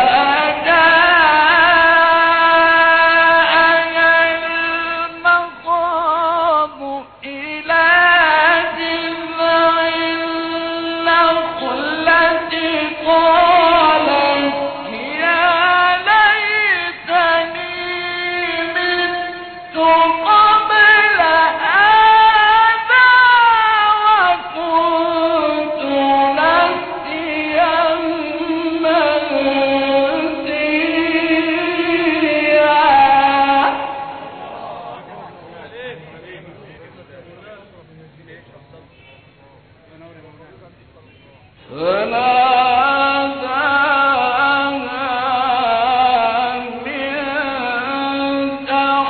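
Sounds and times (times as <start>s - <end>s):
man chanting: 0.0s - 37.8s, 41.6s - 49.0s.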